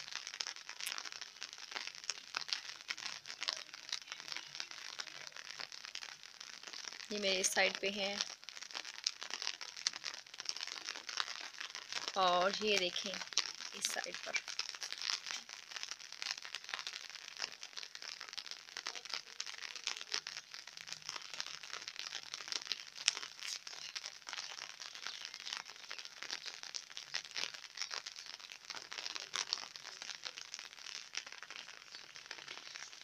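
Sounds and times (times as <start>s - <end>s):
light rain pattering: 0.0s - 33.0s.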